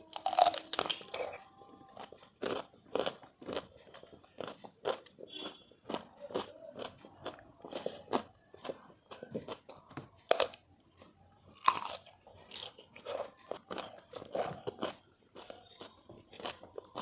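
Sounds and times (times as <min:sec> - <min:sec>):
wet crunchy chewing and biting: 0:00.0 - 0:17.0.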